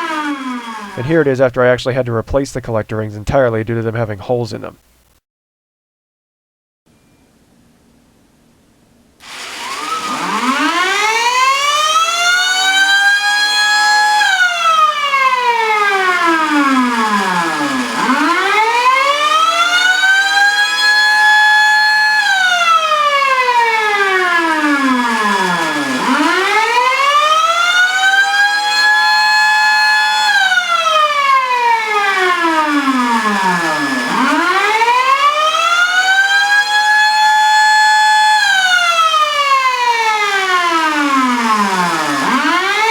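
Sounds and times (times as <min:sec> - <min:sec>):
rising and falling siren: 0:00.0 - 0:01.0, 0:09.2 - 0:42.9.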